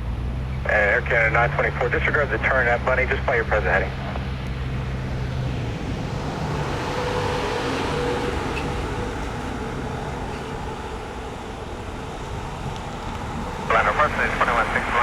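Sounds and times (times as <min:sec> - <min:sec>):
jet aircraft engine noise: 0:00.6 - 0:15.0.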